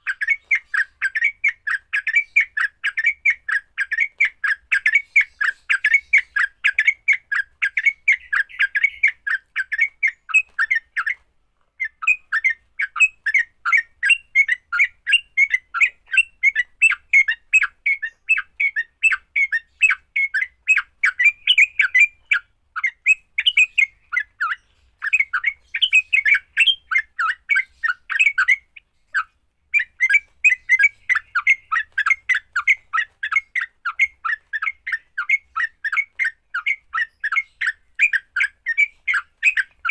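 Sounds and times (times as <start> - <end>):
birds rapid chattering song: 0.0 - 39.9.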